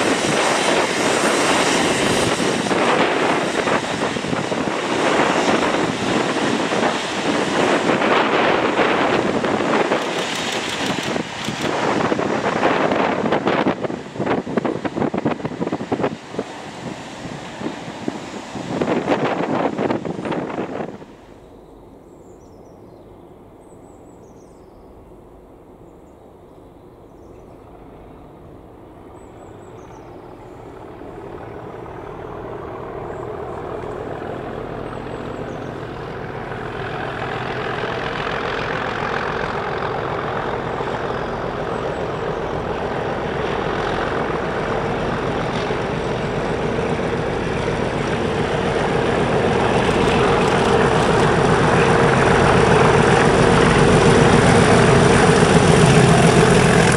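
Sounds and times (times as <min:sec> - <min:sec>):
diesel locomotive growling: 0:00.0 - 0:21.4, 0:27.3 - 0:56.9.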